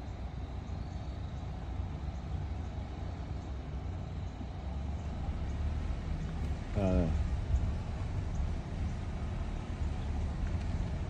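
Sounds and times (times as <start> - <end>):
vehicle running rumble: 0.0 - 11.0.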